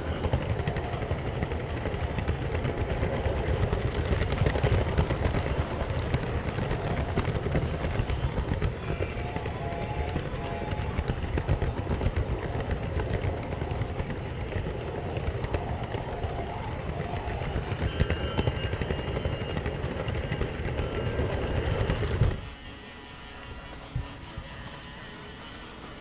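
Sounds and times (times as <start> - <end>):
toy train wheels clattering: 0.0 - 26.0.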